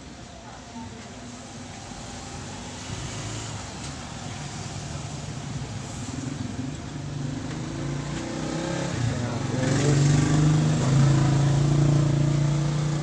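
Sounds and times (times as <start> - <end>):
vehicle engine droning at low revs: 1.3 - 13.0.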